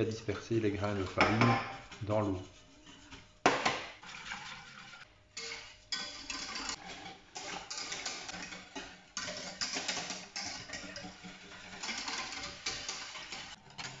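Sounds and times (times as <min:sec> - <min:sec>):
whisk scraping a saucepan: 0:00.0 - 0:14.0.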